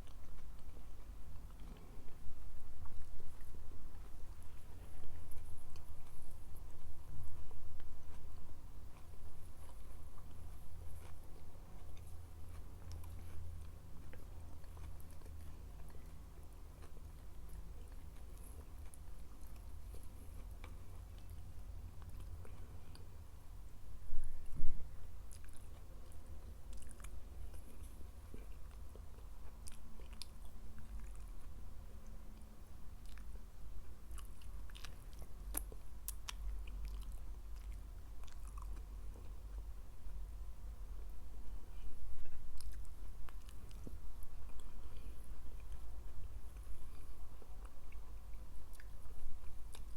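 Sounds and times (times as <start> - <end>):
person chewing food: 0.0 - 23.4, 24.1 - 40.2, 40.9 - 49.9
steady low hum: 0.0 - 49.9.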